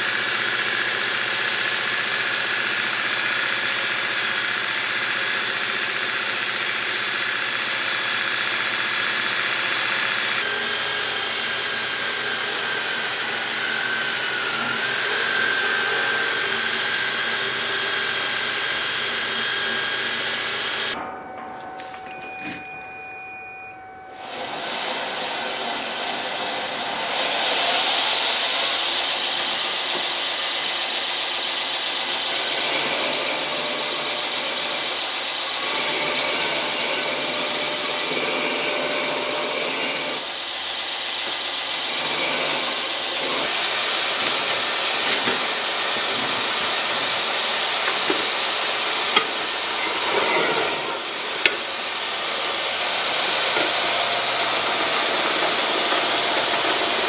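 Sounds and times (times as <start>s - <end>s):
belt grinder grinding steel: 0.0s - 21.0s, 24.1s - 57.0s.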